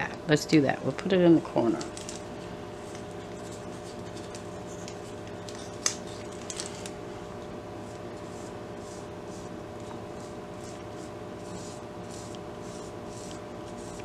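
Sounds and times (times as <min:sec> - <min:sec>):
room hum: 0:00.0 - 0:14.0.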